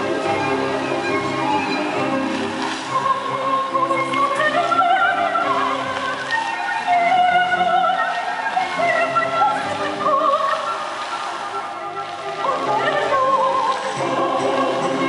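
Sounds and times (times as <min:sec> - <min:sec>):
orchestral accompaniment: 0:00.0 - 0:06.2, 0:09.0 - 0:15.0
operatic singing with vibrato: 0:00.0 - 0:15.0.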